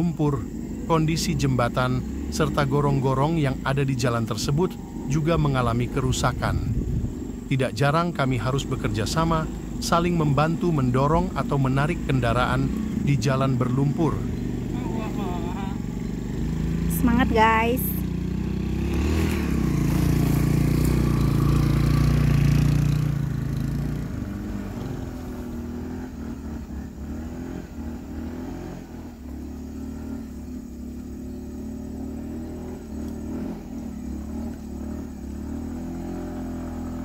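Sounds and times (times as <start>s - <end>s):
scooter engines revving: 0.0s - 37.0s.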